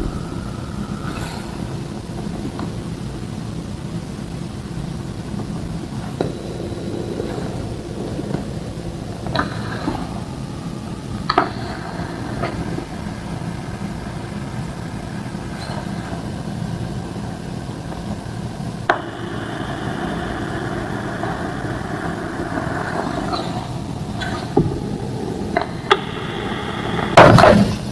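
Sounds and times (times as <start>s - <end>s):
engine-like background hum: 0.0s - 27.9s.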